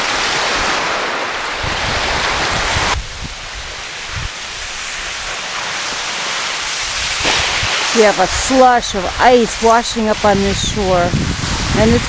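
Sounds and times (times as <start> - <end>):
wind buffeting microphone: 0.0 - 5.4, 6.6 - 12.0
waves washing slush ice: 0.0 - 12.0.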